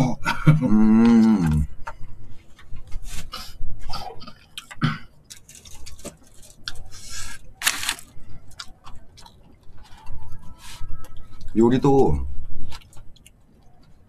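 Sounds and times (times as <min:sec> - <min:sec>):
chewing and mouth sounds: 0:00.9 - 0:14.0.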